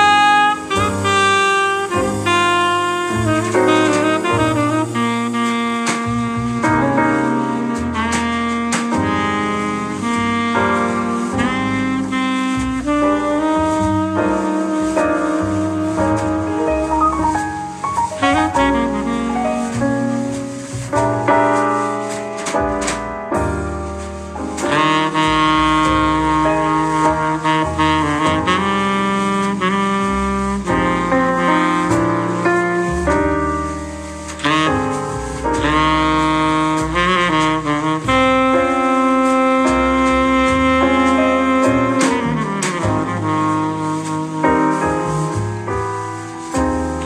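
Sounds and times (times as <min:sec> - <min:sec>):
saxophone long held notes: 0:00.0 - 0:20.8, 0:24.6 - 0:45.4
double bass: 0:00.0 - 0:47.0
piano: 0:00.0 - 0:47.0.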